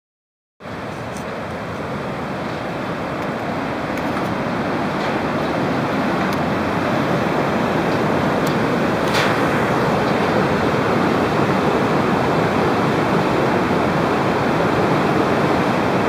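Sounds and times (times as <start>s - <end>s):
rushing whitewater river: 0.6s - 16.0s.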